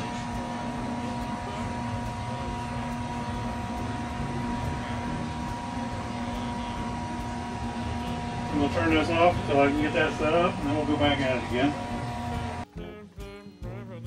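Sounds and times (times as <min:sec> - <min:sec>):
mechanical drone with low rumble: 0:00.0 - 0:14.0.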